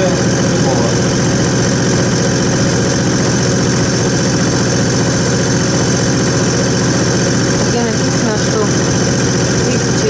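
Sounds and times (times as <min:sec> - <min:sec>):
fuel pump running with fast pulsing: 0:00.0 - 0:10.0.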